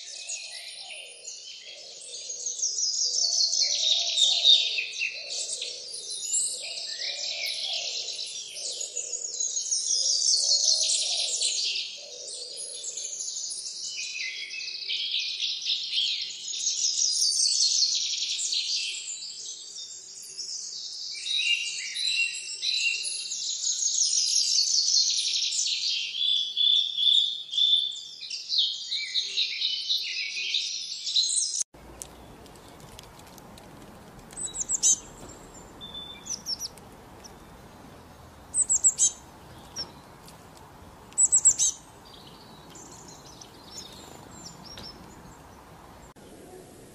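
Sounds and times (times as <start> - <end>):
small birds chirping: 0.0 - 46.8.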